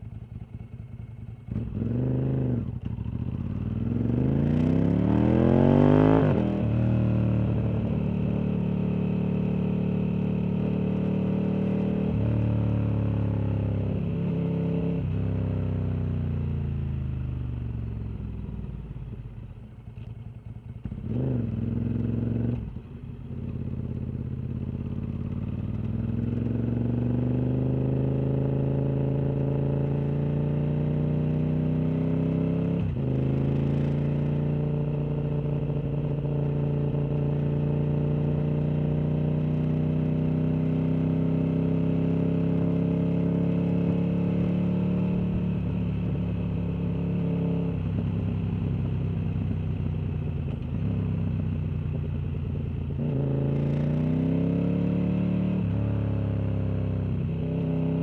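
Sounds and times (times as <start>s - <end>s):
motorcycle engine revving: 0.0s - 19.1s, 20.6s - 58.0s.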